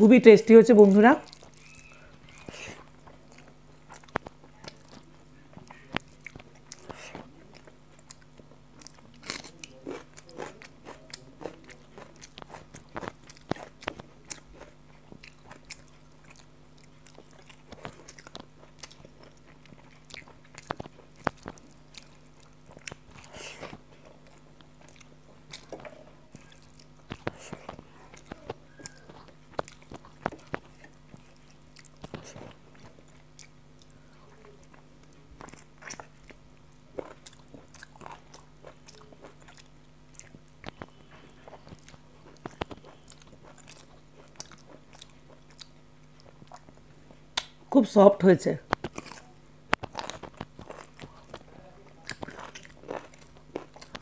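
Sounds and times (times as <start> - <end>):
steady low hum: 0.0 - 54.0
chewing and mouth smacks: 1.2 - 47.7, 48.7 - 54.0.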